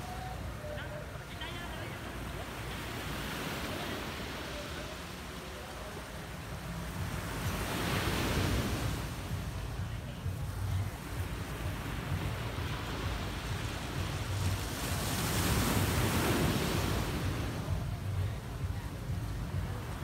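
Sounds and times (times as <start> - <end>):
small waves breaking on sand: 0.0 - 20.0.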